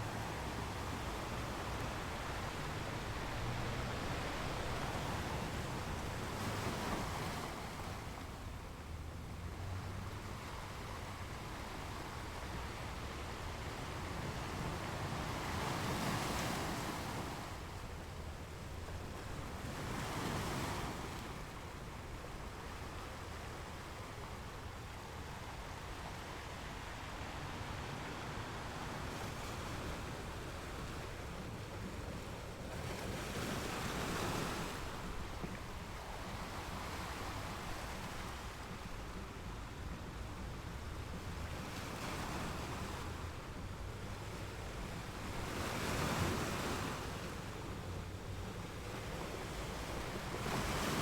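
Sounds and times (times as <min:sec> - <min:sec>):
ocean waves on shore: 0:00.0 - 0:51.0.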